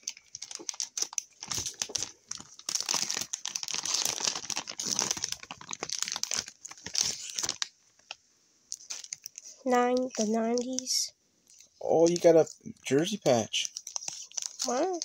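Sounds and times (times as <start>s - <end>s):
wrapper crinkling: 0.0s - 12.5s, 13.1s - 15.0s.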